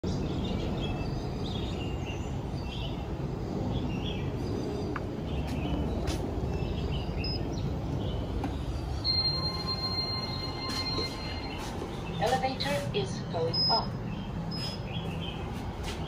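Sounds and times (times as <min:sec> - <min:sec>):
birds chirping and calling: 0:00.1 - 0:09.2, 0:11.0 - 0:16.0.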